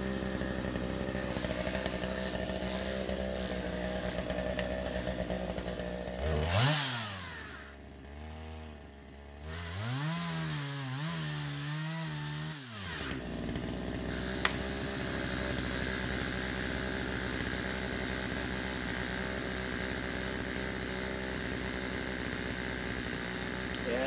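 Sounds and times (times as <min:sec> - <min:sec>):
chainsaw running and idling: 0:00.0 - 0:24.0.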